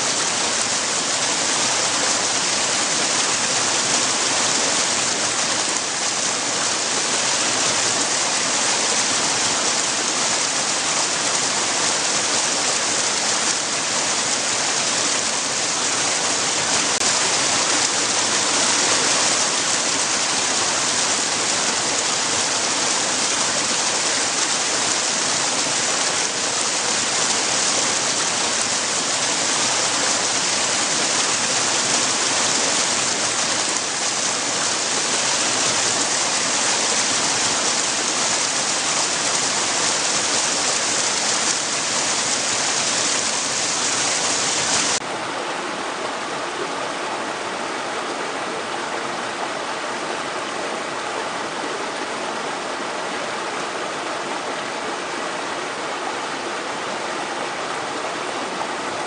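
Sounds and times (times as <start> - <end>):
water rushing against rocks: 0.0 - 59.0.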